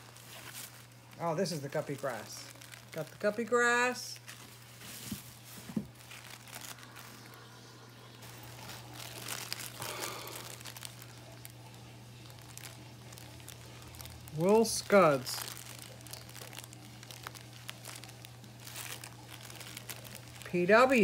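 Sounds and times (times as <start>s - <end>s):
low steady hum: 0.0s - 21.0s
plastic bags crinkling: 0.0s - 21.0s.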